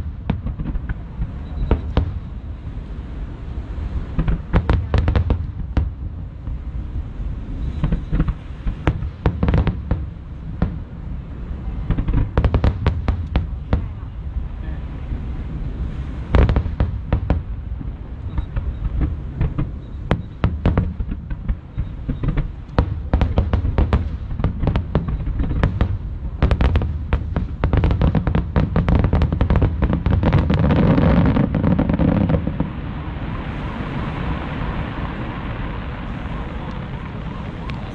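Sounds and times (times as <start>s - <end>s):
fireworks bursting with sharp bangs: 0.0s - 14.2s, 15.8s - 37.9s
steady background noise: 0.0s - 37.9s.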